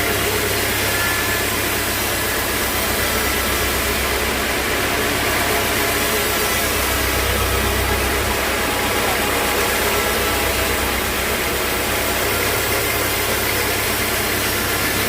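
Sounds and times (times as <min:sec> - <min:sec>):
loud even hiss: 0:00.0 - 0:15.0
low engine drone: 0:00.0 - 0:15.0.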